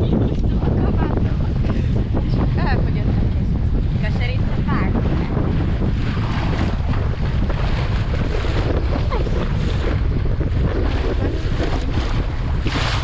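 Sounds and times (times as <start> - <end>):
water rushing and splashing: 0.0 - 13.0
wind buffeting microphone: 0.0 - 13.0.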